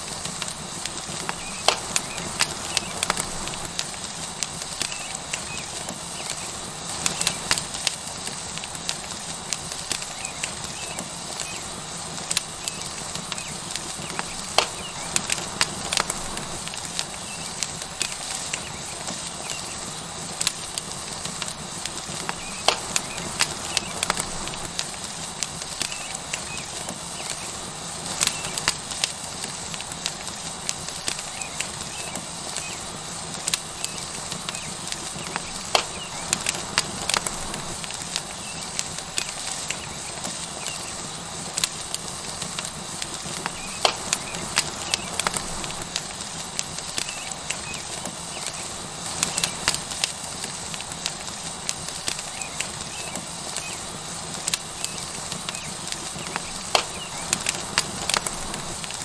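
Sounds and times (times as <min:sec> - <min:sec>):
burning wood crackling: 0:00.0 - 0:59.0
steak sizzling: 0:00.0 - 0:59.0.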